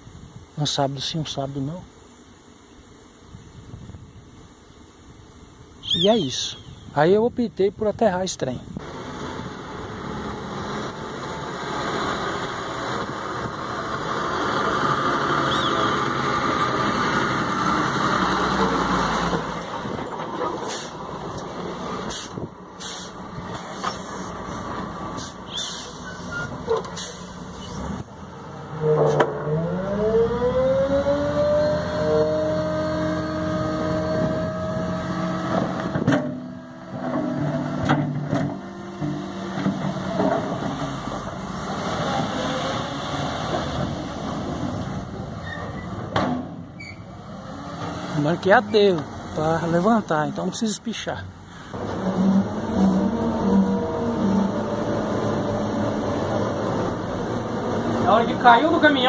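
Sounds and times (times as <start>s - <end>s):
motor grader engine: 8.7s - 59.0s
diesel truck engine revving: 8.8s - 59.0s.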